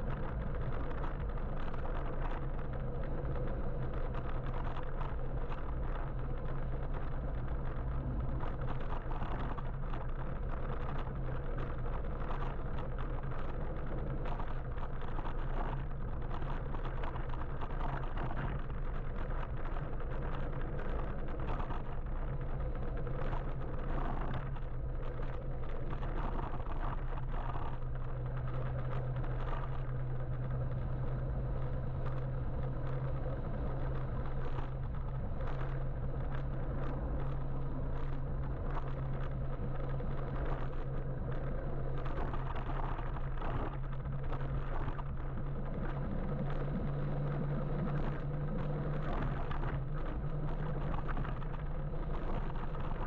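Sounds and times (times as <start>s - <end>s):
electric motorbike hum: 0.0s - 53.0s
road and wind noise: 0.0s - 53.0s.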